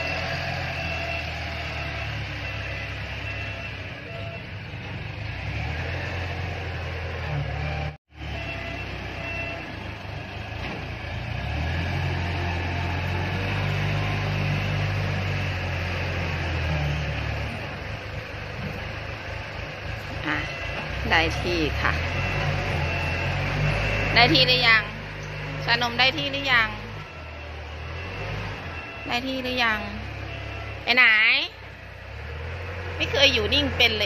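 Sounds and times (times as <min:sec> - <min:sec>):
heavy engine humming: 0:00.0 - 0:34.0.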